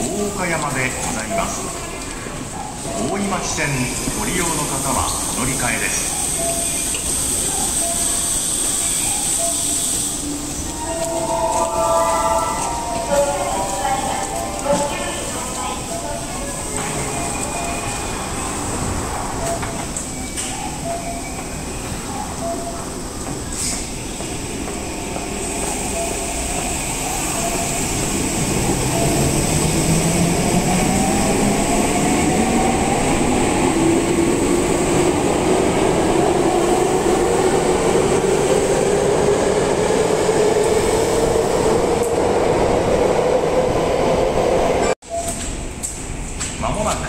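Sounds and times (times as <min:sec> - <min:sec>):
train running noise: 0:00.0 - 0:47.0.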